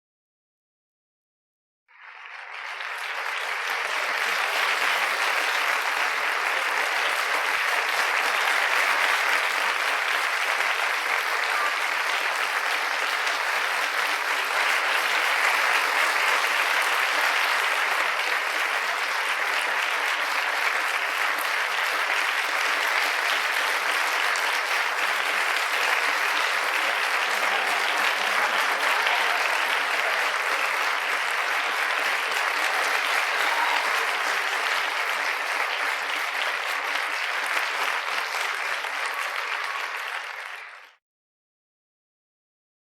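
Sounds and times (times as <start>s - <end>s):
audience applauding: 1.9s - 41.0s.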